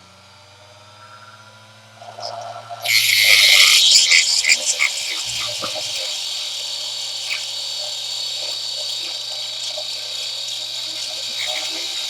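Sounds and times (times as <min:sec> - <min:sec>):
grinder motor hum: 0:00.0 - 0:12.0
steel being ground: 0:01.0 - 0:12.0.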